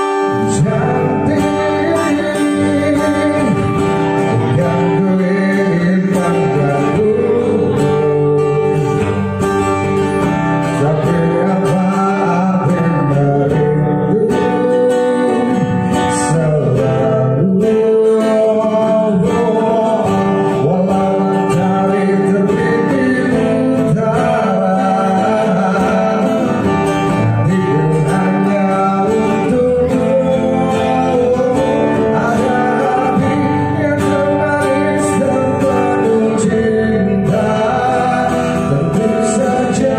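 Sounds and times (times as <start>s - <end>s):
acoustic guitar: 0.0s - 39.9s
man singing into a microphone: 0.0s - 39.9s.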